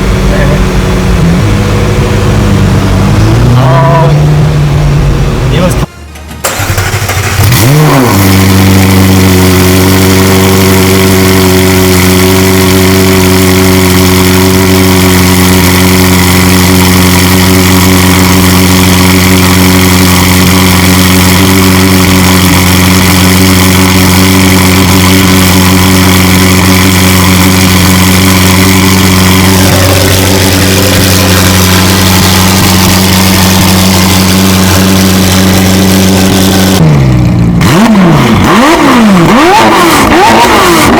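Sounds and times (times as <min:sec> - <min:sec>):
loud car engine idling: 0:00.0 - 0:40.9.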